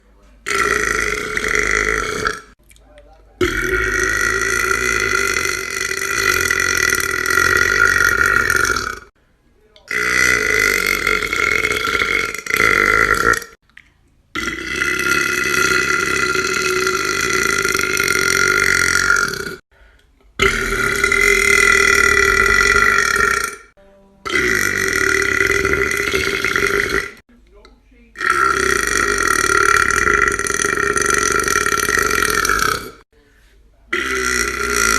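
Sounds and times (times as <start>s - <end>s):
person burping loudly: 0.4s - 2.6s, 3.4s - 9.1s, 9.9s - 13.6s, 14.3s - 19.6s, 20.4s - 27.2s, 28.2s - 33.1s, 33.9s - 34.9s.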